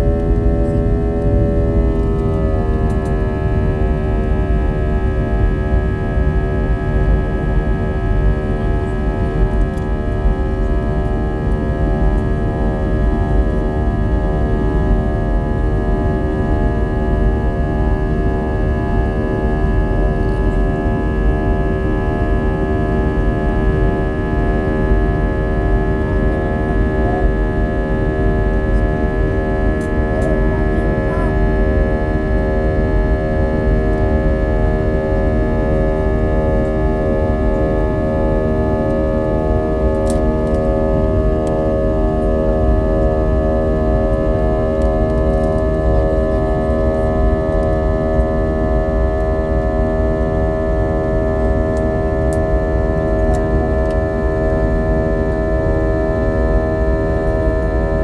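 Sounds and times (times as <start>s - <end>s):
jet engine cabin drone: 0.0s - 58.0s.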